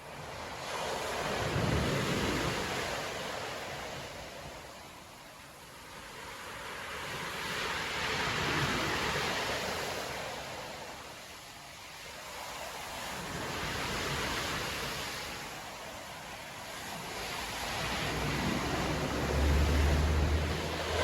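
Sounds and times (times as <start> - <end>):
waves crashing on beach: 0.0 - 21.0
wind: 0.0 - 21.0.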